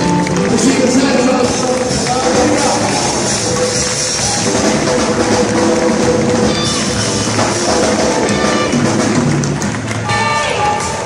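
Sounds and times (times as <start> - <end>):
live band playing instrumental: 0.0 - 11.0.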